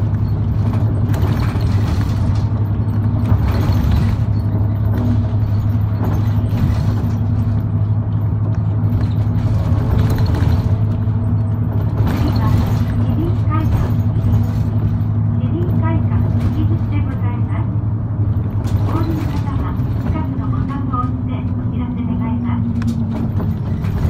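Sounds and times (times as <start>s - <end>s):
cabin rattles and creaks: 0.0s - 17.4s, 18.2s - 21.2s, 22.6s - 24.0s
bus engine drone: 0.0s - 24.0s.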